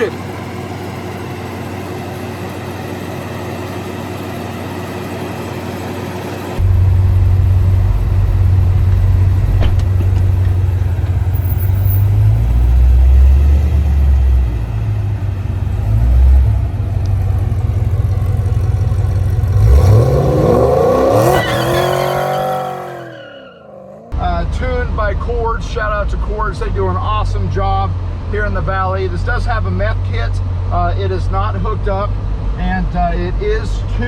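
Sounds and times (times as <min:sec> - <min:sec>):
car engine rumbling and revving: 0:00.0 - 0:34.0.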